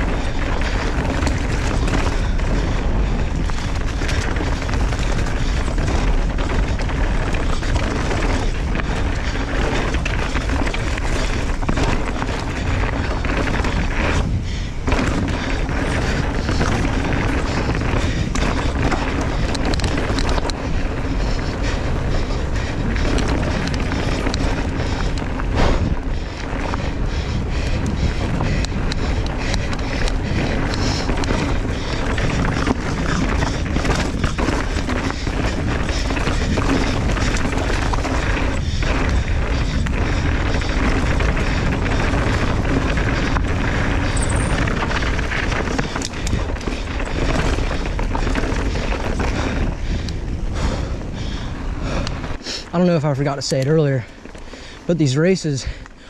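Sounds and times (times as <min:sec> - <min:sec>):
bike rattling over bumps: 0:00.0 - 0:56.0
tyres on dirt and rock: 0:00.0 - 0:56.0
wind rumbling on microphone: 0:00.0 - 0:56.0.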